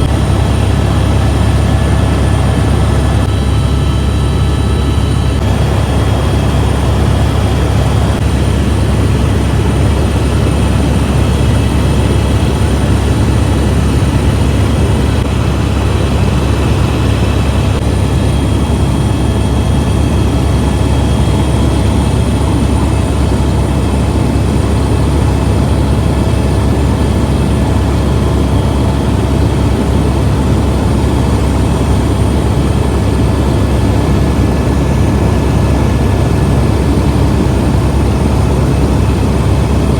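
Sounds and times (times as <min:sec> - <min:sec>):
faint steady whines: 0:00.0 - 0:39.9
helicopter engine and rotor drone: 0:00.0 - 0:39.9.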